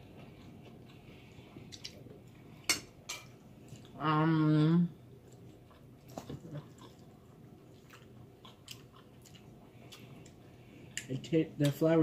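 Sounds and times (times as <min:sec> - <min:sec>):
faint chewing of food: 0:00.0 - 0:03.0, 0:03.6 - 0:04.0, 0:05.1 - 0:11.8.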